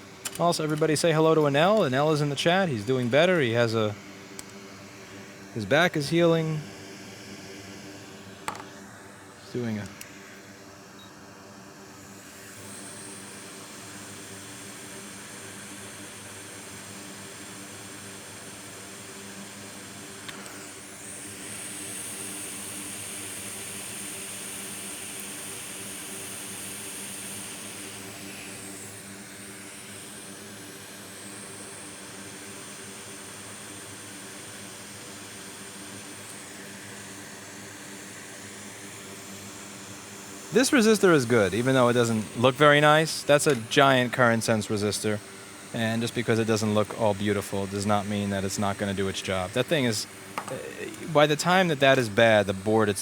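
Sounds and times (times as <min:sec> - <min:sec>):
hot air blower hiss: 0:00.0 - 0:53.0.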